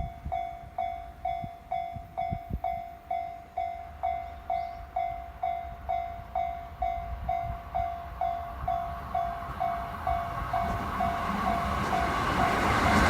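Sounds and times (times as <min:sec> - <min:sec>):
approaching train rumble: 0:00.0 - 0:13.0
level crossing warning bell: 0:00.0 - 0:13.0.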